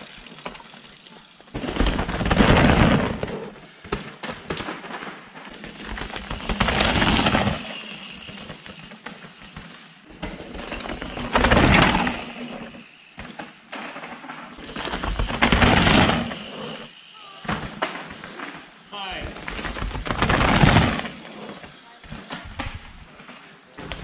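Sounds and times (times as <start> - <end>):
mountain bike tyres on dirt: 0.0 - 24.0.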